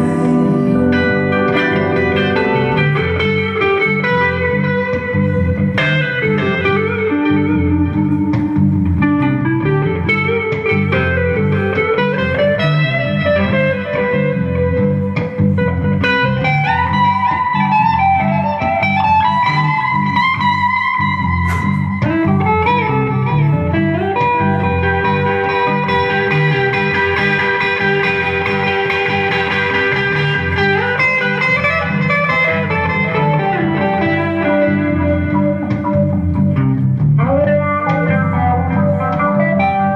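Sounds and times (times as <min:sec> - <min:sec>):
bluesy electric guitar lead: 0:00.0 - 0:39.9
live band music: 0:00.0 - 0:39.9.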